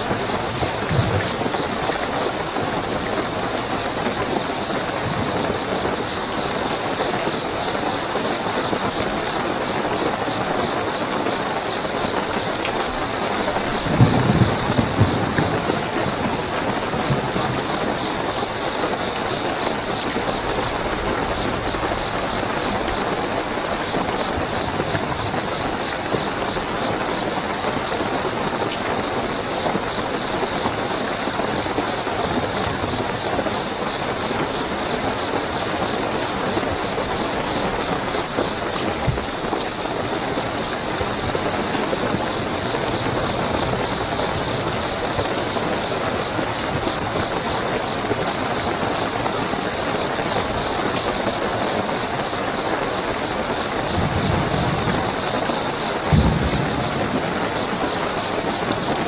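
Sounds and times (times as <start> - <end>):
crickets chirping: 0.0 - 59.0
steady rainfall: 0.0 - 59.0.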